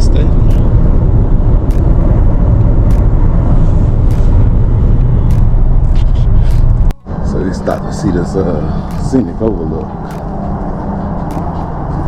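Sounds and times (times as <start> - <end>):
road and wind noise in car: 0.0 - 12.0.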